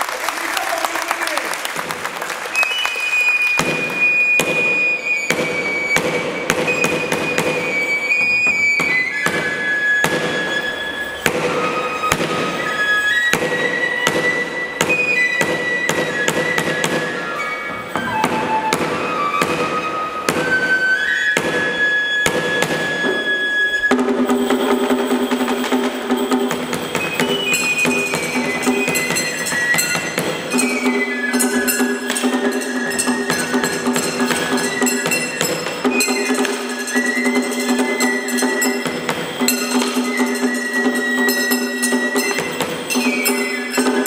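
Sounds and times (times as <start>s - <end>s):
high held melody: 3.5s - 44.0s
sharp percussive strikes: 3.5s - 44.0s.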